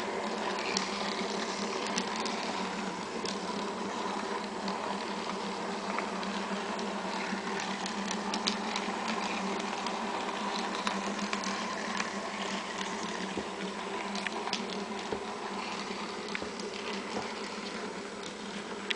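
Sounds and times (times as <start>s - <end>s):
model train motor humming: 0.0s - 18.9s.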